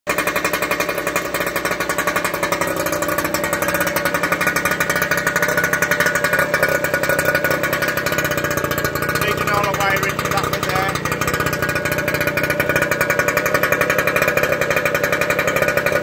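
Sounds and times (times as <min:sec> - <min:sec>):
scooter two-stroke engine running: 0:00.1 - 0:16.0.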